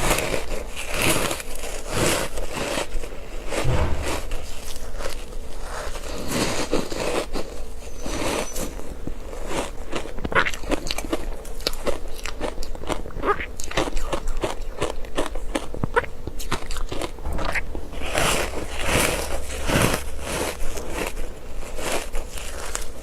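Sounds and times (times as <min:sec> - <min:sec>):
ice being crunched and chewed: 0:00.0 - 0:03.5, 0:05.8 - 0:23.0.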